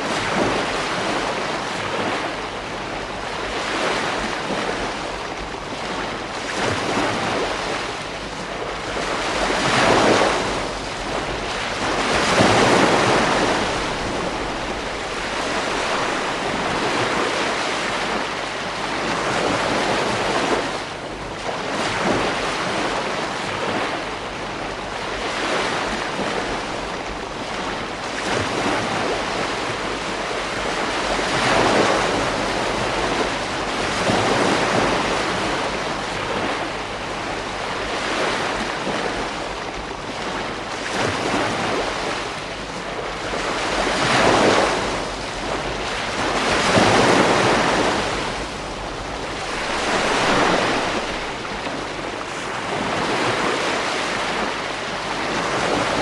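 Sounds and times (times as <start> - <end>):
ocean waves breaking on beach: 0.0 - 56.0
wind noise on microphone: 0.0 - 56.0.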